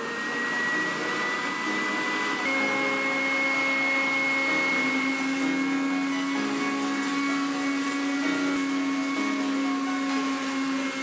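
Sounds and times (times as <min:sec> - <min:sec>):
vacuum motor high whine: 0:00.0 - 0:11.0.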